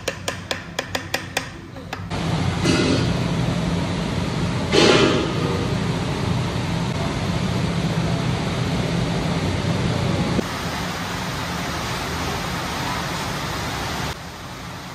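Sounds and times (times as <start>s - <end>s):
kitchen ventilation rushing hum: 0.0s - 14.9s.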